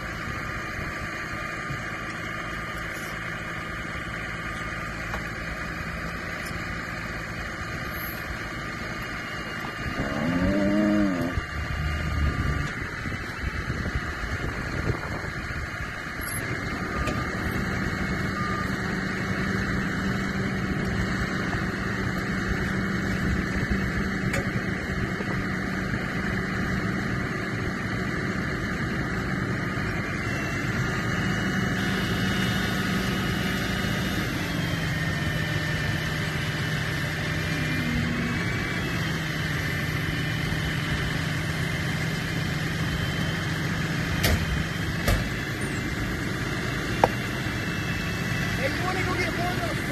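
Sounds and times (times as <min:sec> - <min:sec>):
vehicle engine idling: 0:00.0 - 0:49.9.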